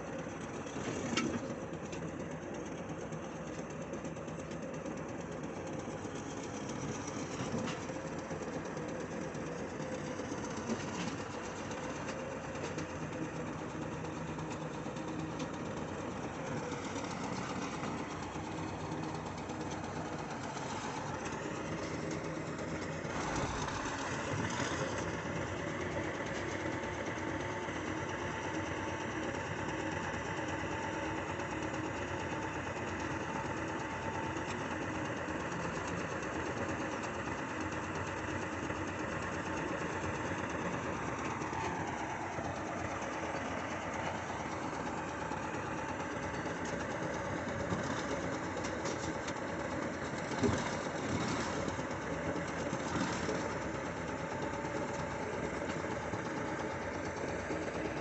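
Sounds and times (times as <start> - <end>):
diesel engine idling: 2.3 - 33.0, 36.2 - 58.0.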